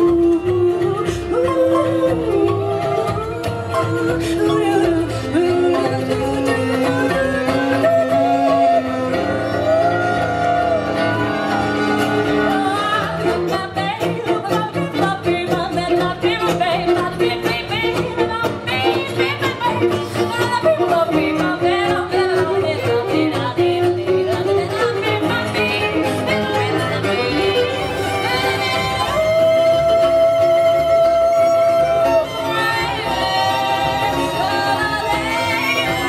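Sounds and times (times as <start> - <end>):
song with singing and instruments: 0.0 - 36.0.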